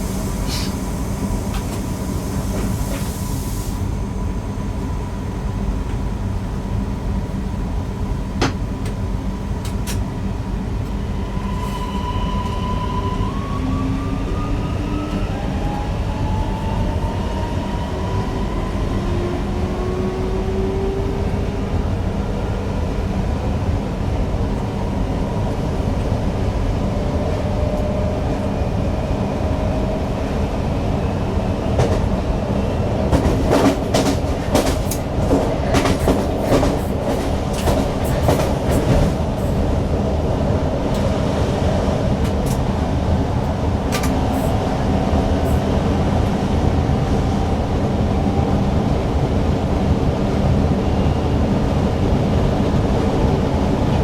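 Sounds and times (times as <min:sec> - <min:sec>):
train rumble with constant tone: 0:00.0 - 0:54.0.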